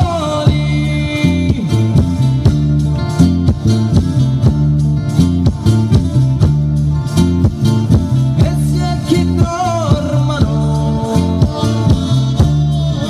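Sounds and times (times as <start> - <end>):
acoustic guitars strumming: 0.0 - 13.0
electric bass notes: 0.0 - 13.0
percussion: 0.0 - 13.0.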